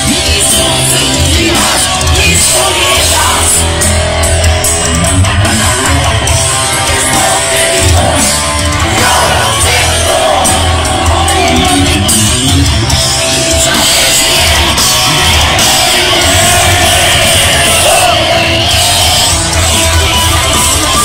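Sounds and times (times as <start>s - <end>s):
electric guitar: 0.0s - 21.0s
live rock band playing: 0.0s - 21.0s.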